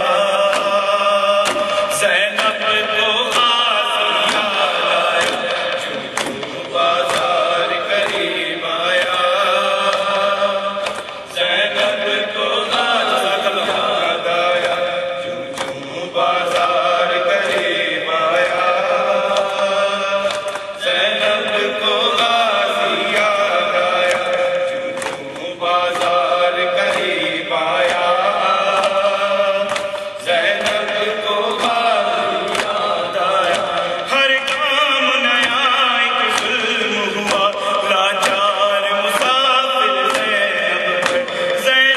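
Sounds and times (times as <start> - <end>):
man chanting into microphone: 0.0 - 41.9
sharp rhythmic strikes: 0.0 - 41.9.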